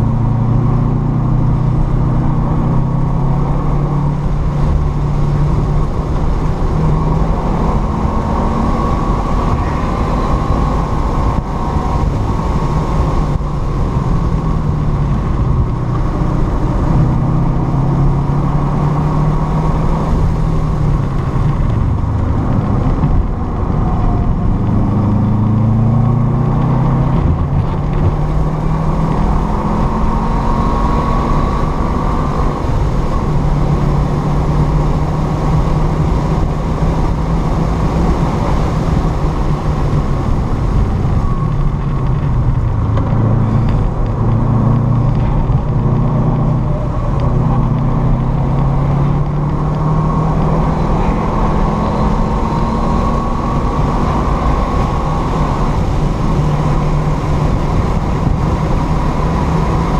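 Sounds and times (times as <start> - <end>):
car engine revving hard: 0.0 - 59.9
road and wind noise: 0.0 - 59.9.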